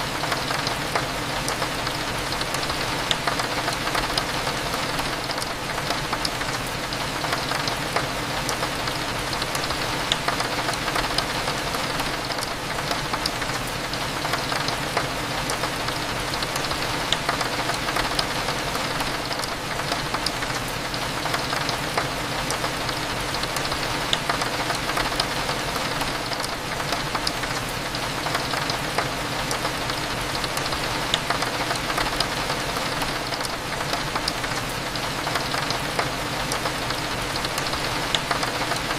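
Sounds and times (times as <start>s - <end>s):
rain pattering on a window: 0.0s - 38.9s.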